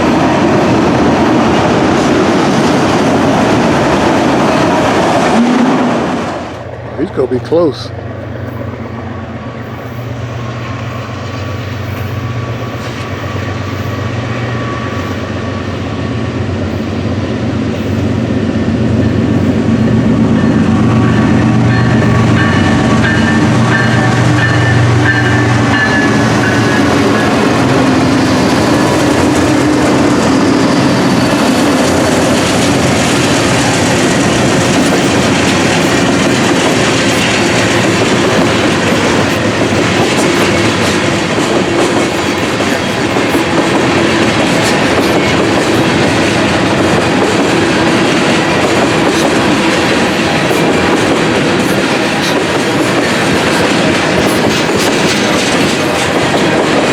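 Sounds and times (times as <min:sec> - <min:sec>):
locomotive engine: 0:00.0 - 0:56.9
train wheels rolling on rails: 0:00.0 - 0:56.9.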